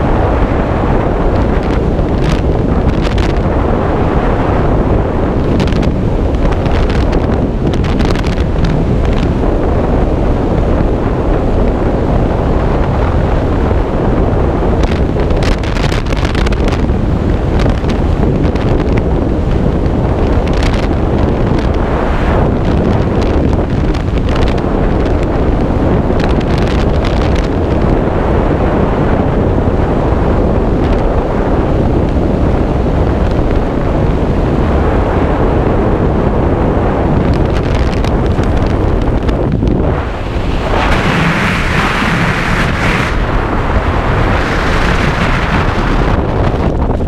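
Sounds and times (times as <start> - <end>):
freefall wind buffeting microphone: 0.0 - 47.0.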